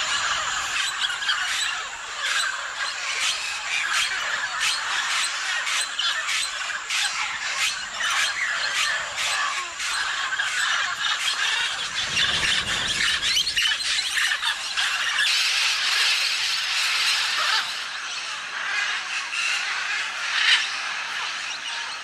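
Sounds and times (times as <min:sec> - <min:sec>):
parrots squawking: 0:00.0 - 0:21.1.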